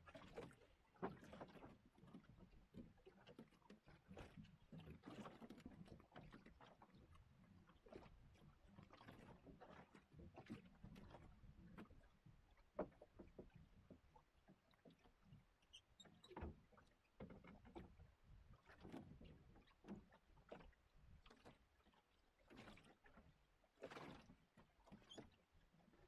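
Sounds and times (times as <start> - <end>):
water lapping against hull: 0.0 - 26.0.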